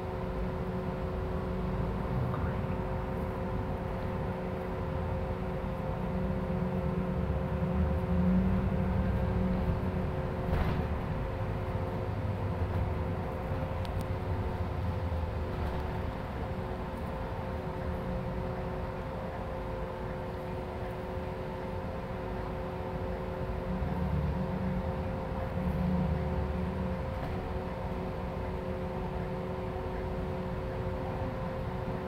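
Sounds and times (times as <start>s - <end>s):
bus engine and road rumble: 0.0s - 32.0s
constant hum: 0.0s - 32.0s.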